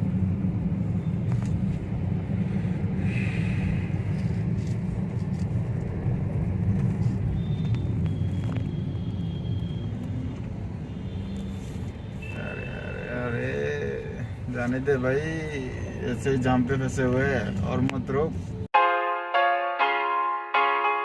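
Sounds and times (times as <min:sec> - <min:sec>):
vehicle engine and road noise: 0:00.0 - 0:18.7.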